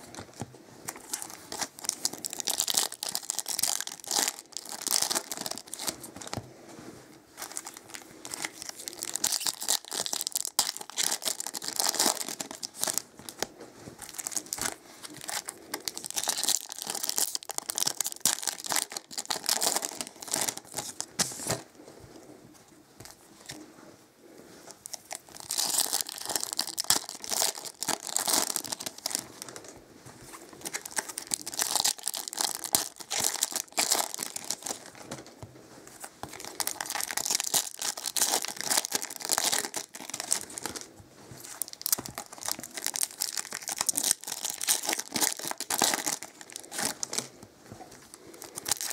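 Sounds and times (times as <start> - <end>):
foil wrappers crinkling: 0.0 - 6.4, 7.4 - 13.4, 14.0 - 21.6, 24.9 - 29.6, 30.5 - 35.3, 36.2 - 47.3, 48.2 - 48.9.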